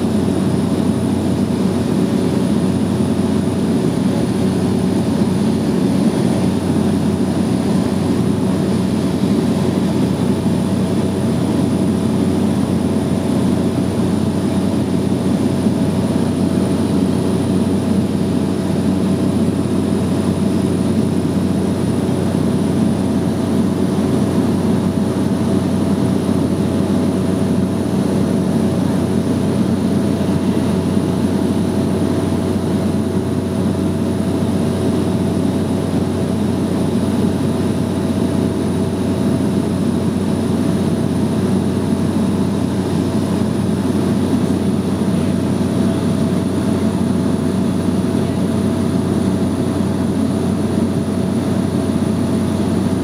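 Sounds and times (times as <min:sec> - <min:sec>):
small aircraft engine droning: 0:00.0 - 0:53.0.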